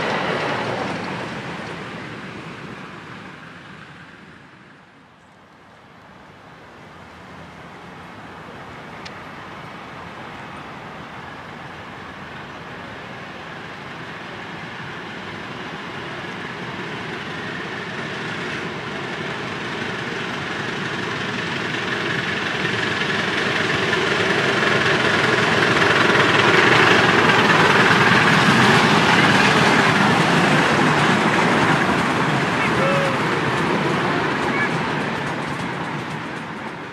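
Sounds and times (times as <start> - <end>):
miniature train passing: 0.0 - 36.9.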